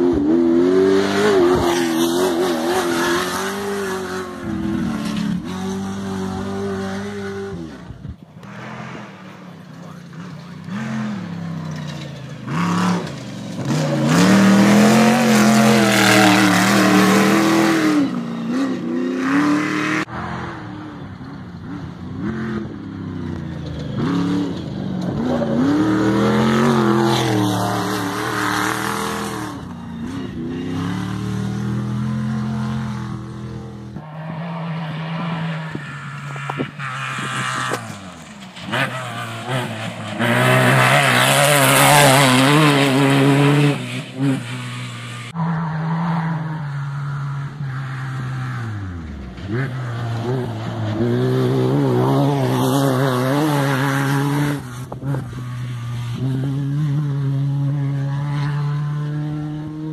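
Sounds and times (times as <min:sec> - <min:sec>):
off-road vehicles revving past: 0:00.0 - 0:59.9.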